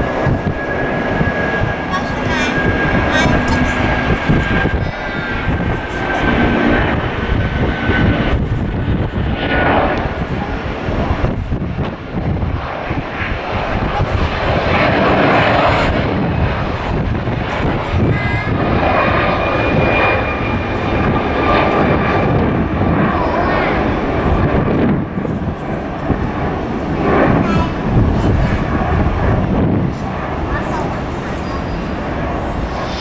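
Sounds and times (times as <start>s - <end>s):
jet engine rumble: 0.0s - 33.0s.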